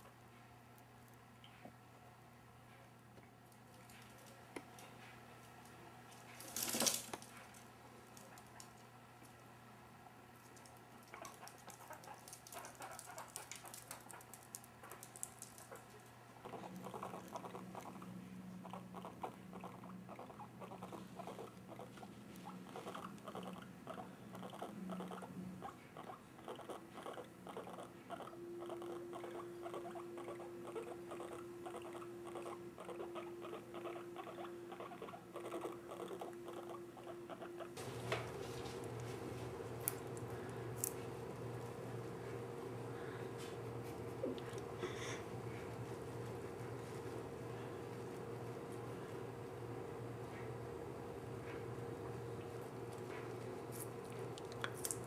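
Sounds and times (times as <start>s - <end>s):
guinea pig purring: 6.2s - 9.0s, 10.0s - 55.0s.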